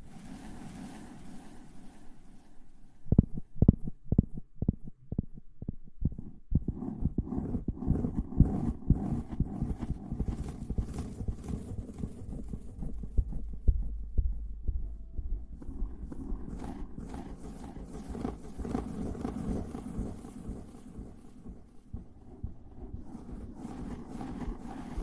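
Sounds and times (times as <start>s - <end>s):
rubbing and scratching on microphone: 3.1s - 25.0s.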